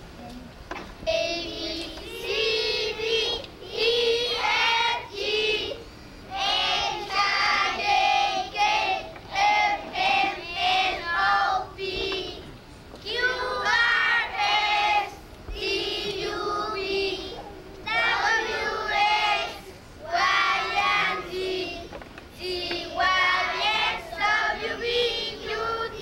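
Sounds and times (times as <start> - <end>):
children singing: 1.3 - 26.0.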